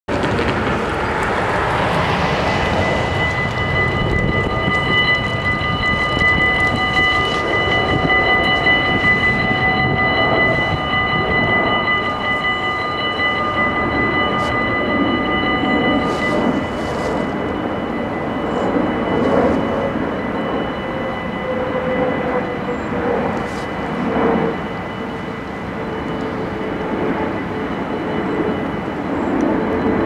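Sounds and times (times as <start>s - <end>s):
level crossing warning bells: 1.2s - 30.0s.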